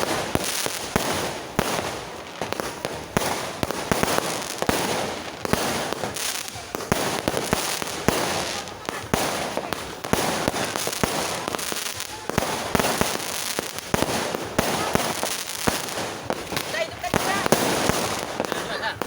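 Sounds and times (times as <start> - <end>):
fireworks bangs: 0.0 - 19.0
fireworks crackle: 0.0 - 19.0.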